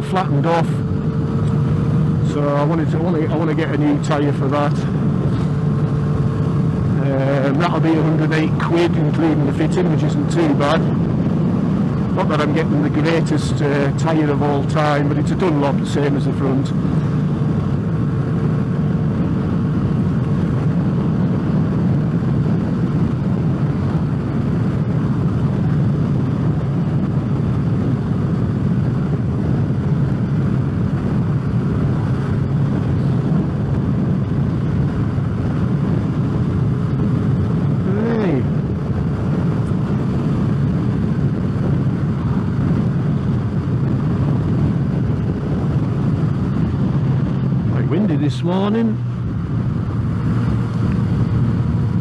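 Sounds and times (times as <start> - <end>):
motorcycle engine running: 0.0 - 52.0
wind noise against helmet: 0.0 - 52.0.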